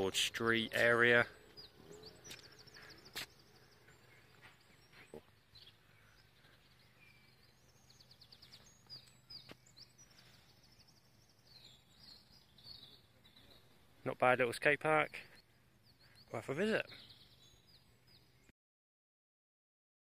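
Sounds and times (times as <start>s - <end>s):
faint birdsong: 0.0s - 18.5s
low steady hum: 0.0s - 18.5s.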